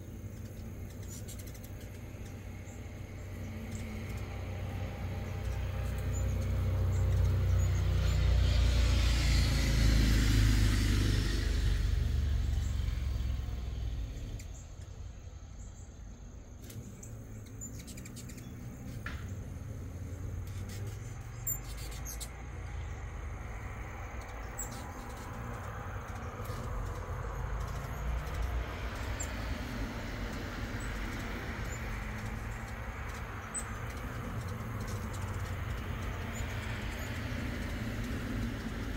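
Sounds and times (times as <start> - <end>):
small birds chirping: 0.0 - 38.9
steady low rumble: 0.0 - 38.9
vehicle passing by: 0.0 - 38.9.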